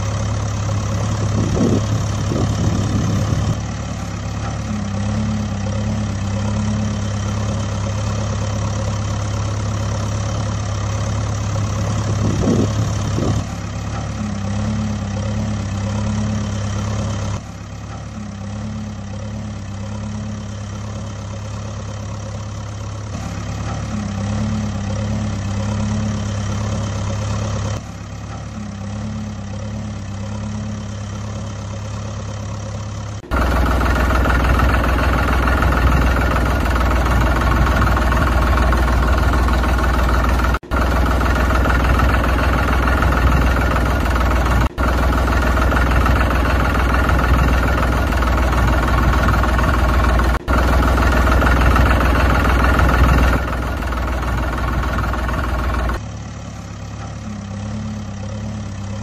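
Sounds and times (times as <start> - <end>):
engine idling with pulsing hum: 0.0 - 59.0.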